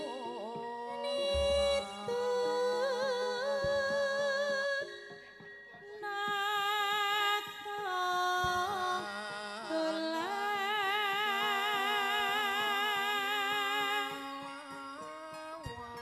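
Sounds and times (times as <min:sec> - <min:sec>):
woman singing with vibrato: 0:00.0 - 0:15.8.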